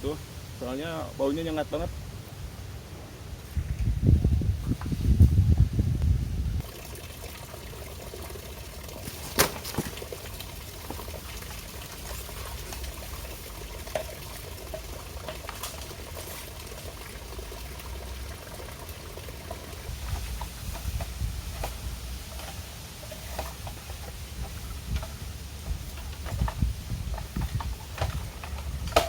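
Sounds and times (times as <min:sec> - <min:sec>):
stream water trickling: 0:03.9 - 0:29.0.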